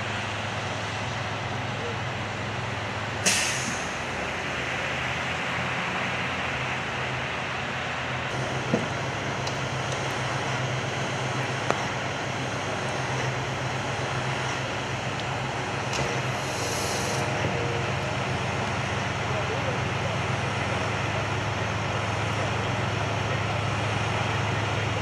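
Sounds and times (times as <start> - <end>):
fire engines idling hum: 0.0 - 25.0.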